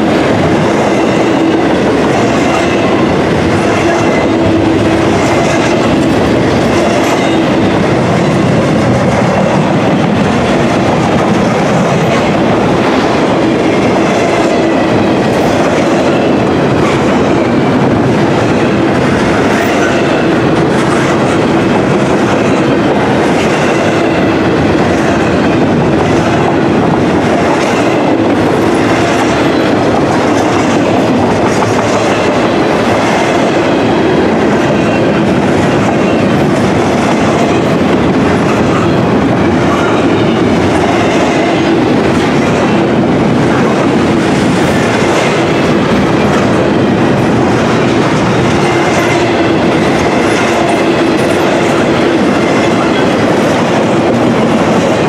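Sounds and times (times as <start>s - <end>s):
train wheels rumbling on rail: 0.0s - 55.0s
wheels clicking on rail: 0.0s - 55.0s.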